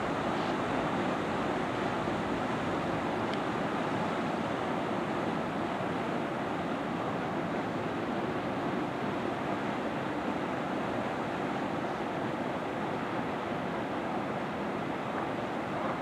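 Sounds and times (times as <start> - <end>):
rushing wash of water: 0.0 - 16.0.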